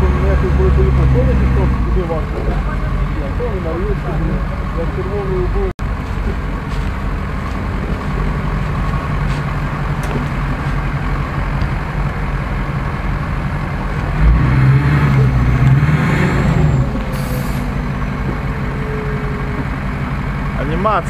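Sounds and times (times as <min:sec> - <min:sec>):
truck engine revving under load: 0:00.0 - 0:21.0.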